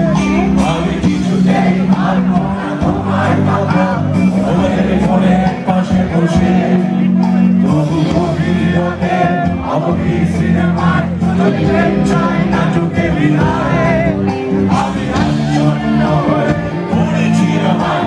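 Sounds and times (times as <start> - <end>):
man singing: 0.0 - 18.0
rock band playing: 0.0 - 18.0.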